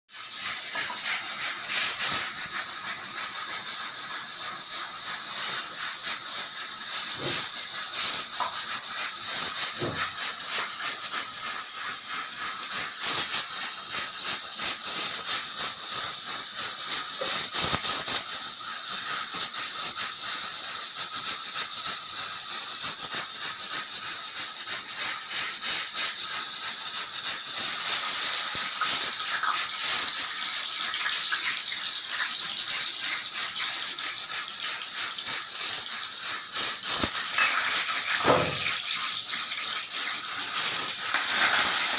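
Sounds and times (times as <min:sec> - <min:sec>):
potatoes sizzling in oil: 0:00.1 - 0:41.9
pressure cooker steam hissing: 0:00.1 - 0:41.9.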